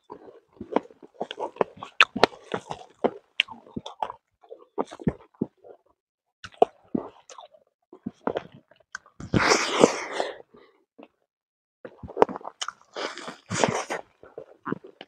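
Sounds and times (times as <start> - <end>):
man chewing food: 0.0 - 11.2, 11.9 - 15.0.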